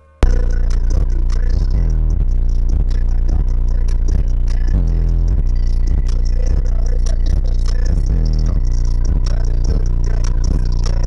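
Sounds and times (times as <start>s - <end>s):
bass-heavy music with beat: 0.2s - 11.0s.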